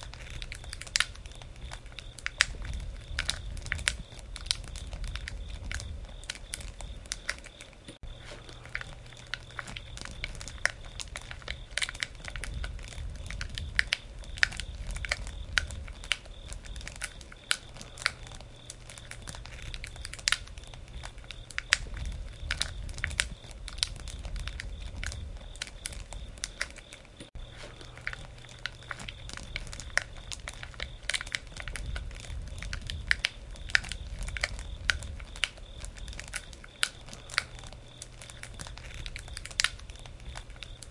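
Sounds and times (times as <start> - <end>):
logs crackling and popping: 0.0 - 40.9
low rumble of flames: 0.0 - 40.9.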